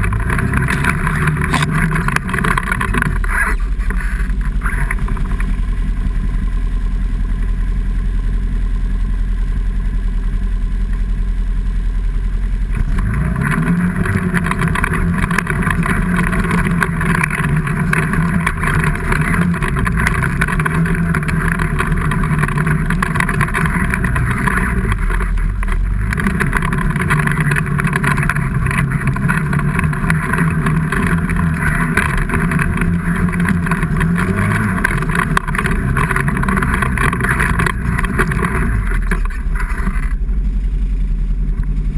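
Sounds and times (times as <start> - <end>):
vehicle engine working hard: 0.0 - 41.9.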